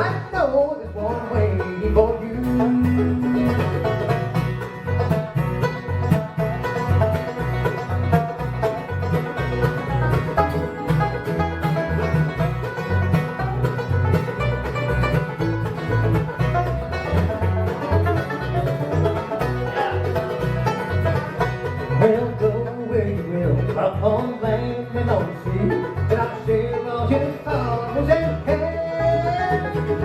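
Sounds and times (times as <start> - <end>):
bluegrass band playing: 0.0 - 30.0
guitar notes: 0.0 - 30.0
plucked banjo: 0.0 - 30.0.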